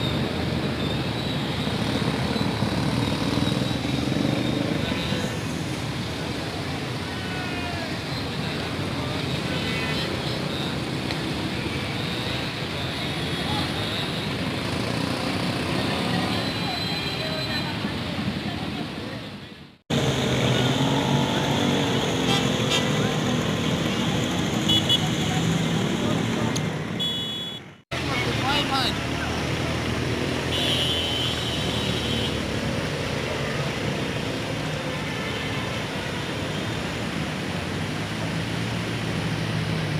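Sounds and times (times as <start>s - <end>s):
street traffic noise: 0.0s - 39.9s.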